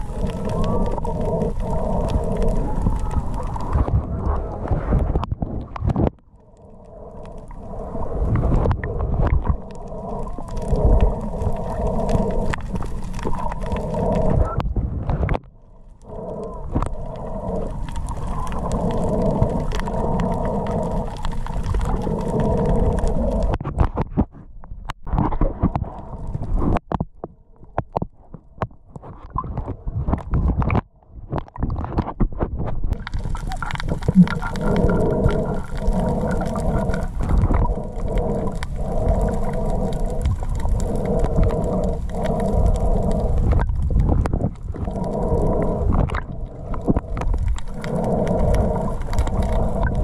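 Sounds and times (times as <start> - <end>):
water gurgling underwater: 0.0 - 50.0.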